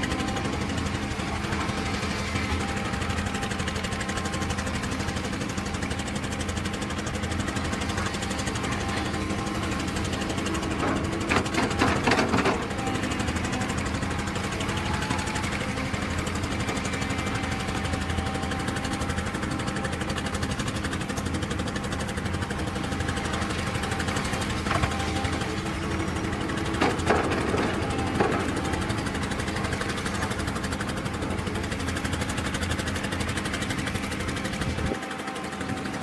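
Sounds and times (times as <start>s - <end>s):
diesel machinery engine running: 0.0s - 36.0s.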